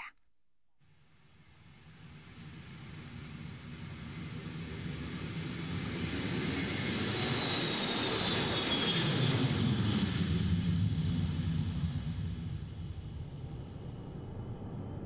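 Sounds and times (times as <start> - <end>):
airplane engines rumbling: 1.9 - 15.0.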